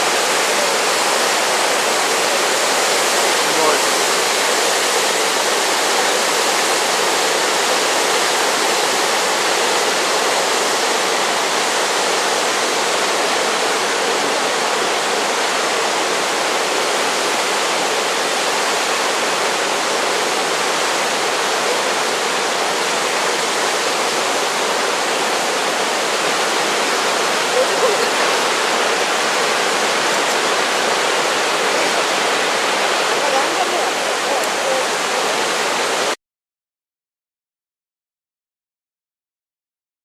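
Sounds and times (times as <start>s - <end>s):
waterfall rushing: 0.0s - 36.2s.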